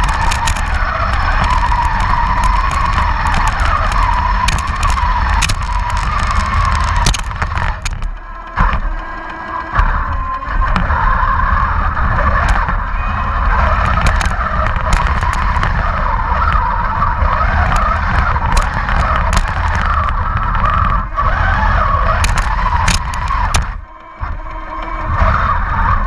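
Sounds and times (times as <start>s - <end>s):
sharp clicks: 0.0s - 25.2s
low rumble: 0.0s - 26.0s
model tank running noise: 0.0s - 26.0s.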